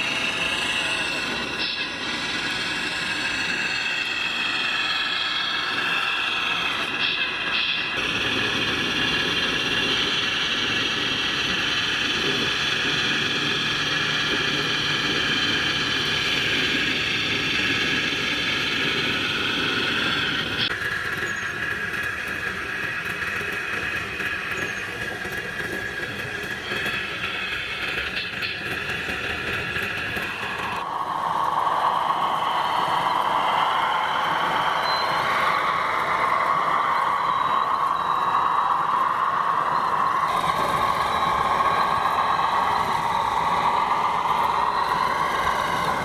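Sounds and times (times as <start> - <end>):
electric motors whining: 0.0 - 46.0.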